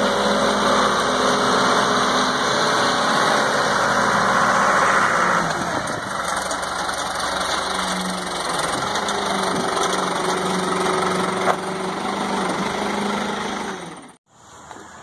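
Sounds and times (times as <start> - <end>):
diesel engine running: 0.0 - 14.2.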